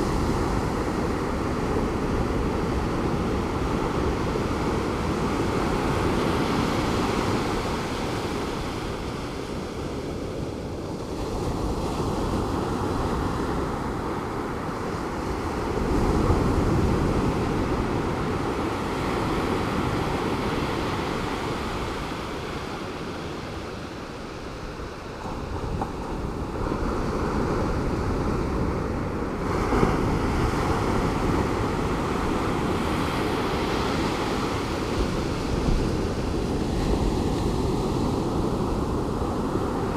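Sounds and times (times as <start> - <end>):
ocean surf breaking: 0.0 - 39.9
wind on microphone: 0.0 - 39.9.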